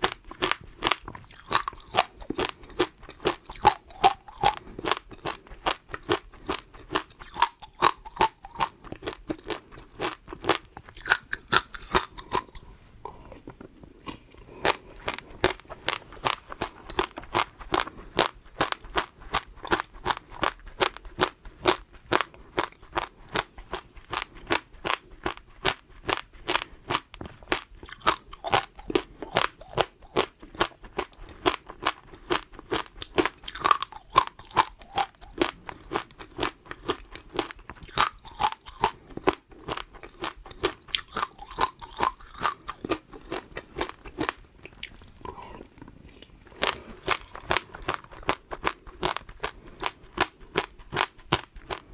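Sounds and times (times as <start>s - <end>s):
chewing crunchy food: 0.0s - 51.9s.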